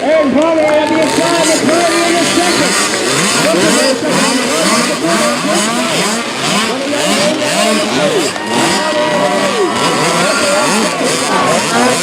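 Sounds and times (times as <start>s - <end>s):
motocross bikes revving: 0.0s - 12.0s.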